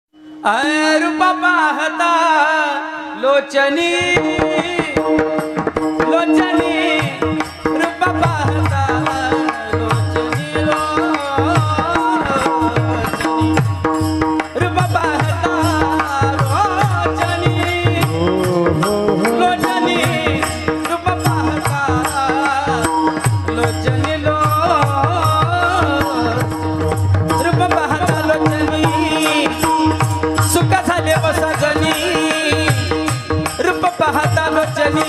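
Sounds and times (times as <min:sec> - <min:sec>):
pakhawaj drum strokes: 0:03.8 - 0:35.0.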